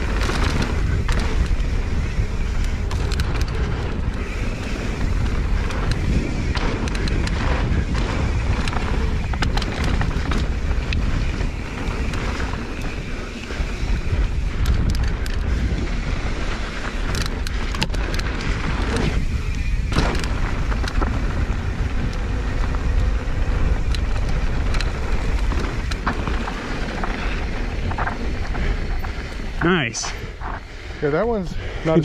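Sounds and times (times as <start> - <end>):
bike rattling over bumps: 0.0 - 32.0
tyres rolling on dirt: 0.0 - 32.0
wind buffeting microphone: 0.0 - 32.0.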